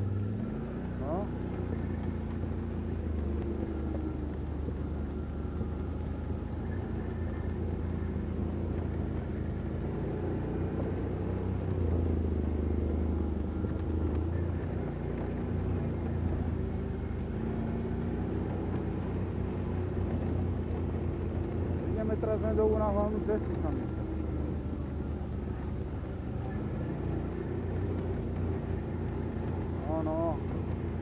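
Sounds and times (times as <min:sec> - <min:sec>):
quad bike engine droning: 0:00.0 - 0:31.0.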